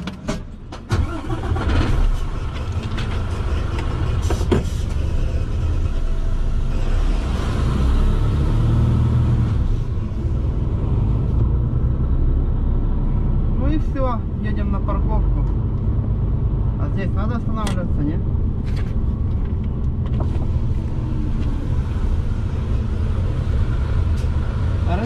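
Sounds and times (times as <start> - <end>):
diesel truck engine running: 0.5 - 25.0.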